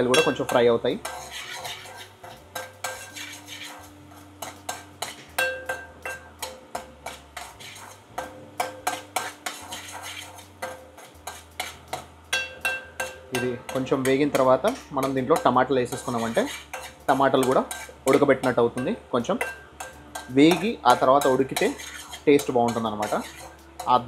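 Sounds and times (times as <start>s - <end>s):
chillies frying in oil: 0.0s - 24.0s
metal spoon scraping a pan: 0.0s - 24.0s.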